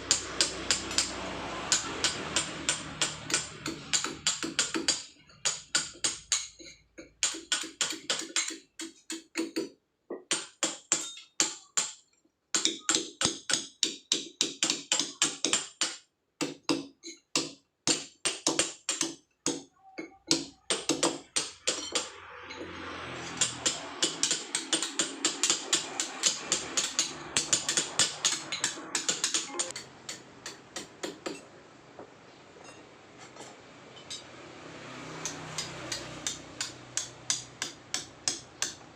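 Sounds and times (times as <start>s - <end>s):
hammer striking chisel on stone: 0.0s - 31.4s, 35.2s - 38.9s.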